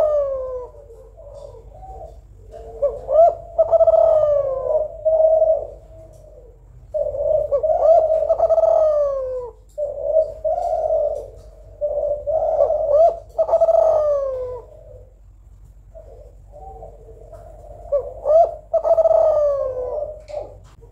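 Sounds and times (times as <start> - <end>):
dove cooing: 0.0 - 20.9.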